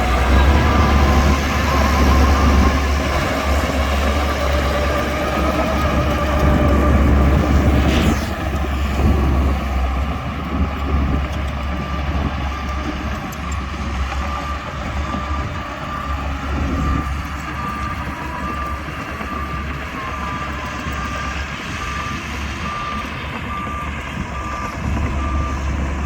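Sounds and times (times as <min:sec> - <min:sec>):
bulldozer engine rumbling: 0:00.0 - 0:26.0.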